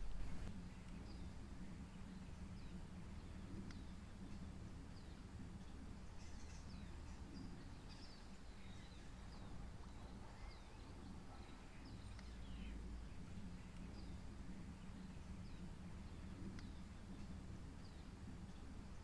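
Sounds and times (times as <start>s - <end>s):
birds chirping: 0.0s - 19.0s
low background rumble: 0.0s - 19.0s.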